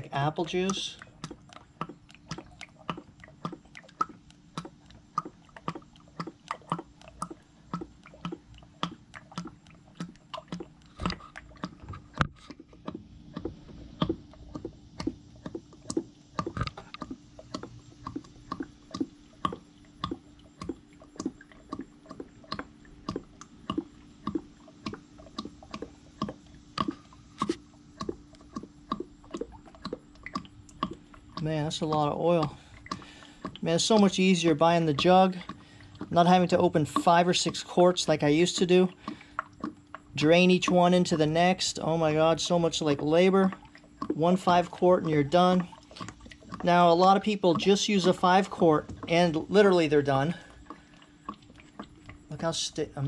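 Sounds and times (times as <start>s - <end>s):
motor oil glugging from jug: 0.0s - 53.0s.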